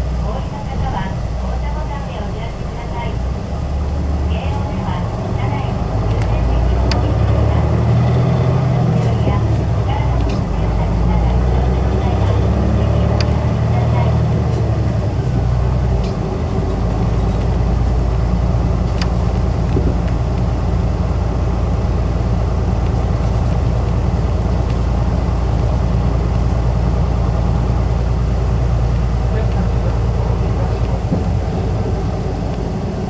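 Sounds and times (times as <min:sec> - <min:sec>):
bus engine running: 0:00.0 - 0:33.0
road noise: 0:00.0 - 0:33.0.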